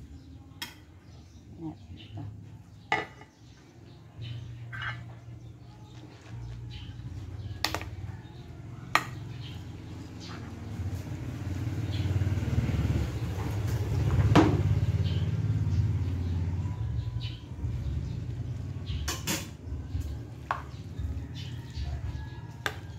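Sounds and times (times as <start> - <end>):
low engine-like rumble: 4.2 - 22.9.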